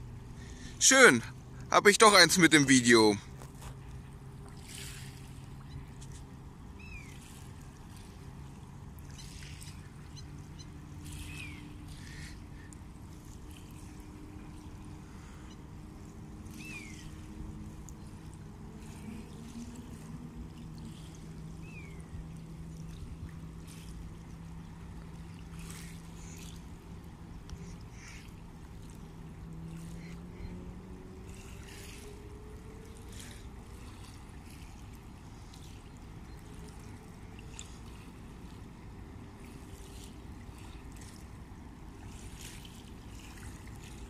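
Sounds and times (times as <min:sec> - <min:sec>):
low engine hum: 0:00.0 - 0:44.0
waves lapping on stony bank: 0:00.0 - 0:44.0.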